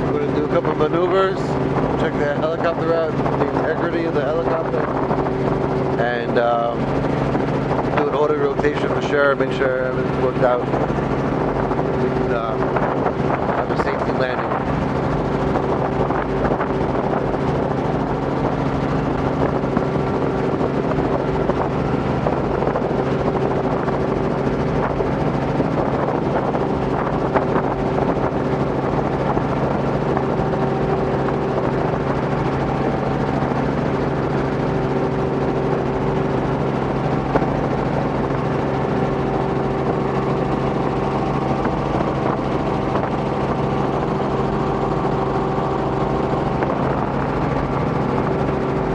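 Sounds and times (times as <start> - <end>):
helicopter rotors and engine droning: 0.0 - 48.9.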